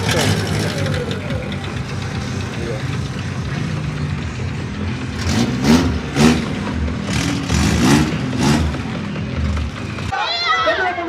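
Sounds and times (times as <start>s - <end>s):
car engine revving: 0.0s - 10.1s
car engine idling: 0.0s - 10.2s.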